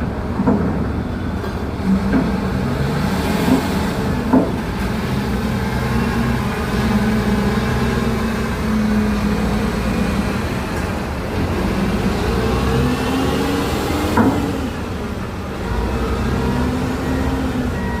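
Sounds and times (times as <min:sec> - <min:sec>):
dump truck diesel engines revving: 0:00.0 - 0:18.0.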